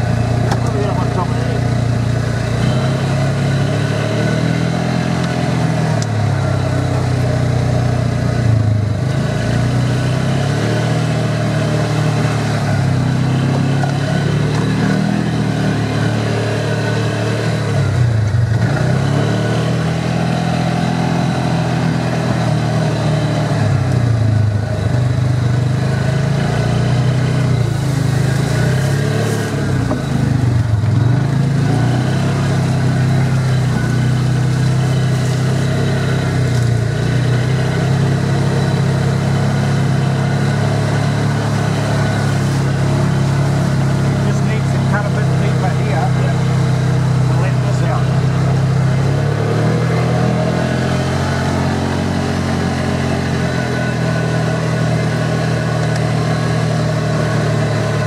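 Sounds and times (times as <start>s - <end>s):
utility vehicle engine revving: 0.0s - 58.0s.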